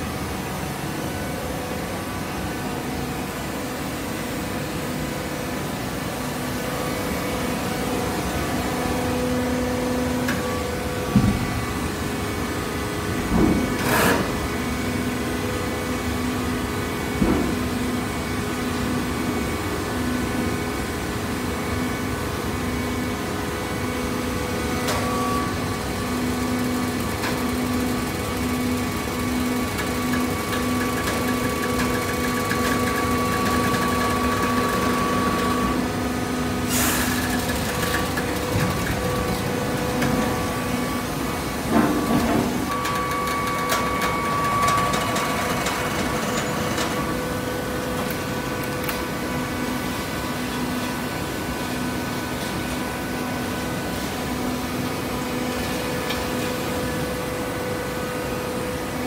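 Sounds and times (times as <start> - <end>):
baling press machine hum: 0.0 - 59.0.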